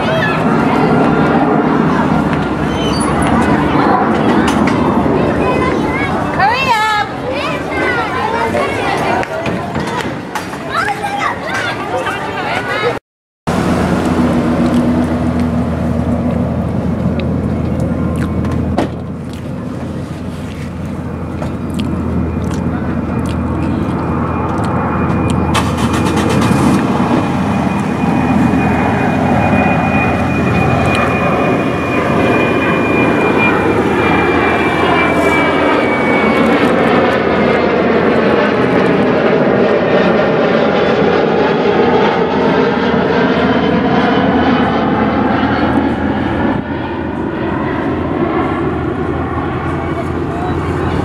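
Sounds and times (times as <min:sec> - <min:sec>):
jet engines passing overhead: 0:00.0 - 0:51.0.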